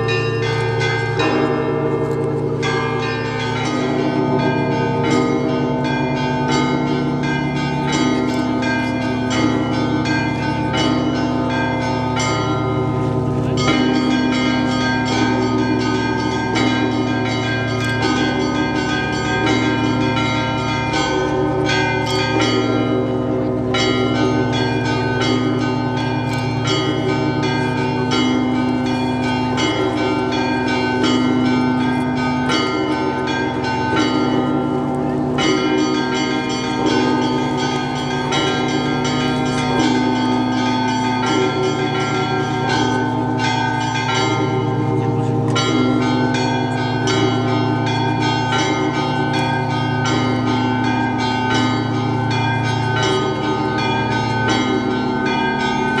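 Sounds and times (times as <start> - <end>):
deep bells tolling: 0.0 - 56.0
small high bells ringing: 0.0 - 56.0.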